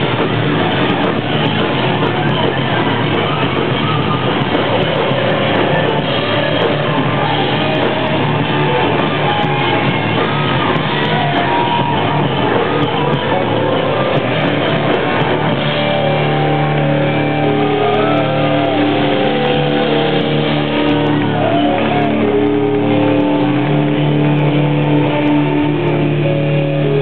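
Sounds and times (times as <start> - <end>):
electric guitar chords: 0.0 - 27.0
synthesizer sustained notes: 0.0 - 27.0.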